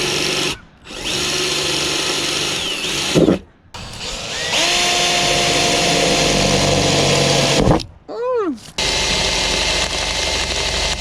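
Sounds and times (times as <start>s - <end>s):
power drill whining: 0.0s - 7.8s, 8.8s - 11.0s.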